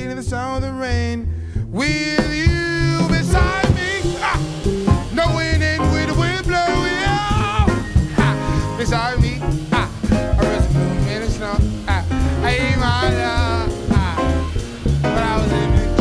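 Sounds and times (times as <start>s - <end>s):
bass: 0.0s - 16.0s
piano: 1.8s - 16.0s
drums with cymbals: 2.2s - 16.0s.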